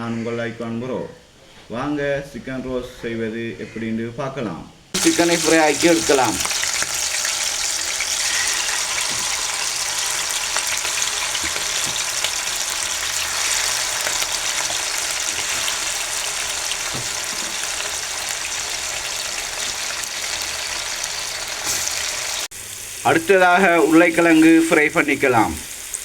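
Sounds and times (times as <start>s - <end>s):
chicken frying in hot oil: 5.0s - 26.0s.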